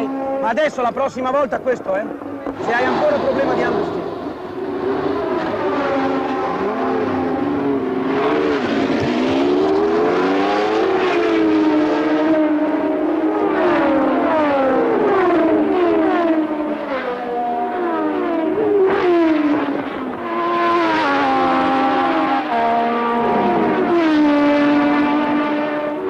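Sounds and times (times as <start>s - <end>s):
cars passing by: 0.0s - 26.0s
racing car engines at high revs: 0.0s - 26.0s.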